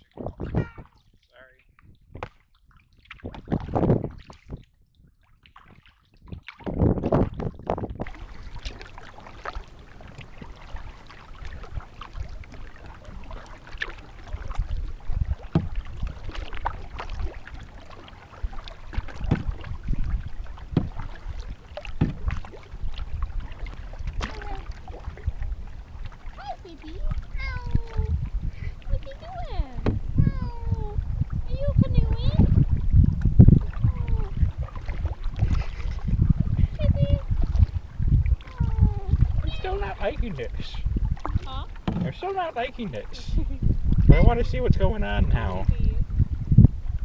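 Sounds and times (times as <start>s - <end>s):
paddle knocking against hull: 0.0s - 1.0s, 6.6s - 47.0s
paddle strokes swishing in water: 2.1s - 47.0s
hiss of water and wind: 8.0s - 47.0s.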